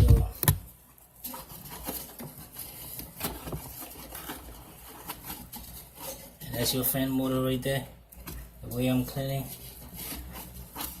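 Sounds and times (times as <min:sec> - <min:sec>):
scrubbing and light scraping: 0:00.0 - 0:11.0.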